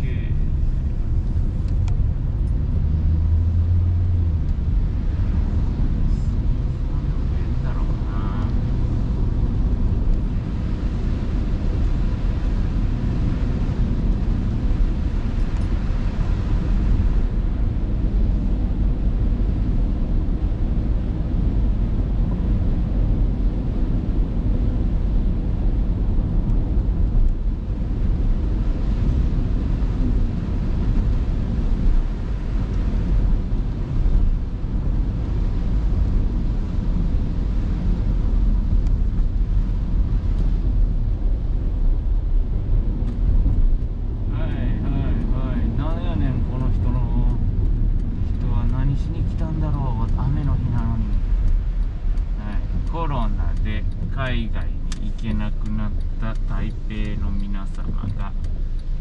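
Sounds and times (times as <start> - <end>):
car engine rumble: 0.0 - 59.0.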